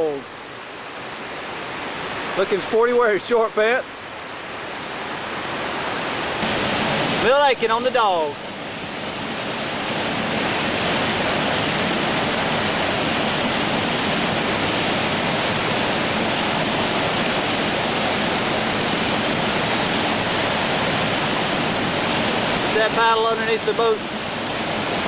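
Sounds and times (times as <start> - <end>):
whitewater rushing: 0.0 - 25.0.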